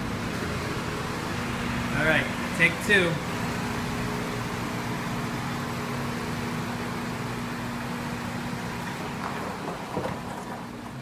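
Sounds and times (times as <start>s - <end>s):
car engine hum inside cabin: 0.0s - 11.0s
fan noise: 0.0s - 11.0s.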